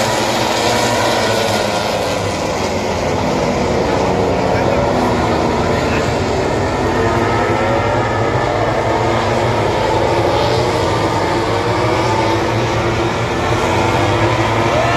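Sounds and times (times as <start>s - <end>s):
engines running together: 0.0s - 14.9s.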